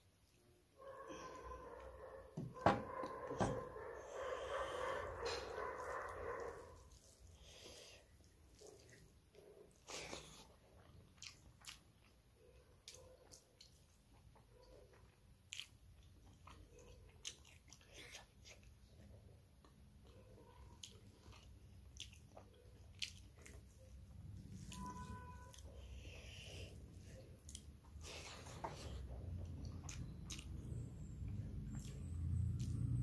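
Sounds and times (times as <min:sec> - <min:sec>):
person chewing: 0:03.0 - 0:33.0.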